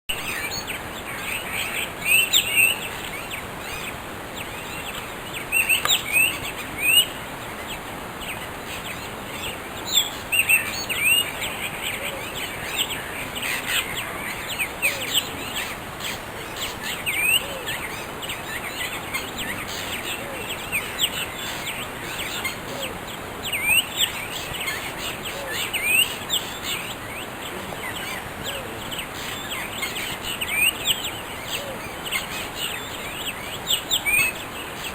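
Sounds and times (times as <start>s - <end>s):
birds chirping: 0.1s - 34.9s
steady background hiss: 0.1s - 34.9s.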